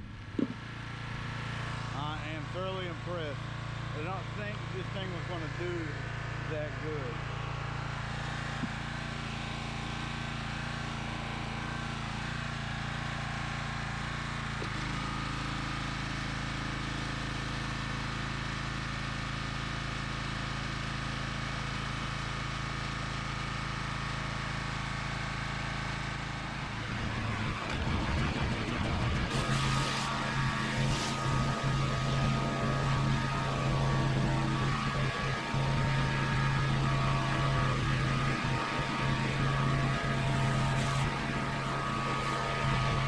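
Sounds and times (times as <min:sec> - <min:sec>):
pressure washer engine drone: 0:00.0 - 0:43.0.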